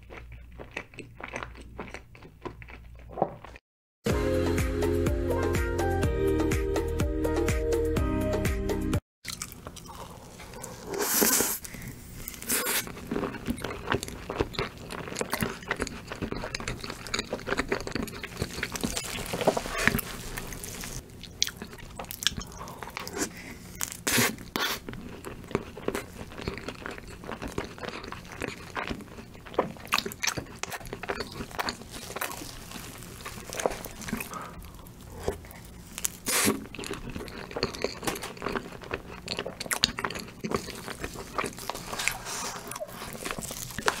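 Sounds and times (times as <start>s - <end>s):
crunchy chewing: 0.0s - 3.6s, 9.2s - 44.0s.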